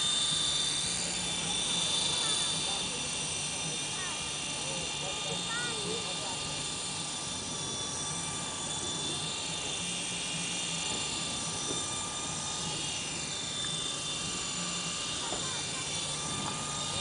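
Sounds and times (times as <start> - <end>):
rc helicopter motor whine: 0.0 - 17.0
rotor chopping: 0.0 - 17.0.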